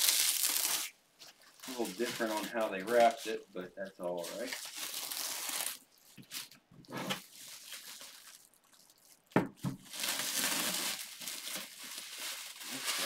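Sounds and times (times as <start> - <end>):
plastic wrap crinkling: 0.0 - 3.4, 4.0 - 13.0.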